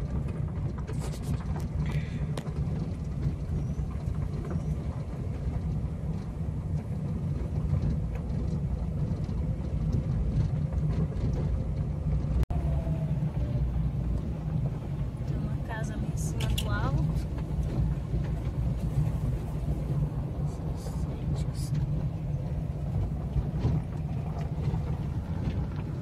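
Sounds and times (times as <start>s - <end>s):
vehicle engine and road rumble: 0.0s - 26.0s.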